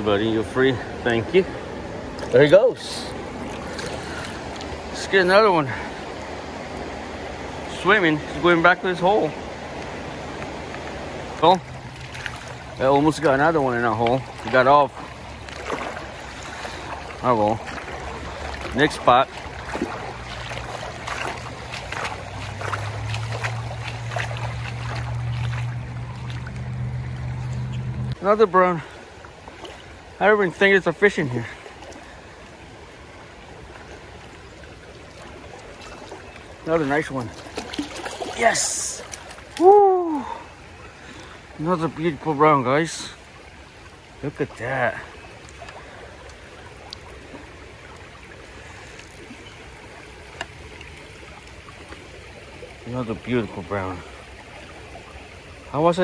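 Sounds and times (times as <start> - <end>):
creek water gurgling over rocks: 0.0 - 56.0
small water splashes: 0.0 - 56.0.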